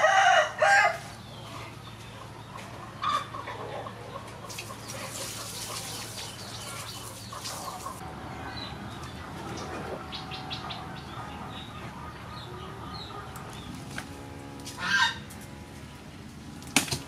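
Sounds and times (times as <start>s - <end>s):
chickens calling: 0.0s - 17.0s
small birds chirping: 1.1s - 16.1s.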